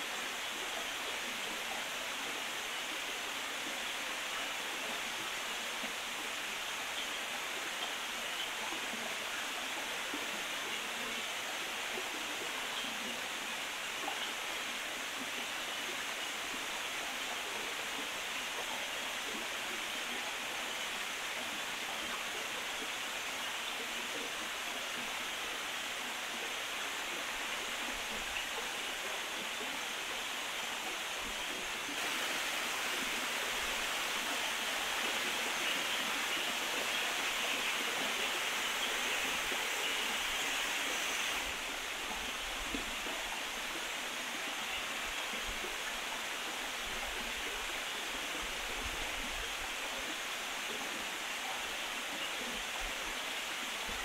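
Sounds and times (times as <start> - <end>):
small waterfall rushing: 0.0 - 54.0.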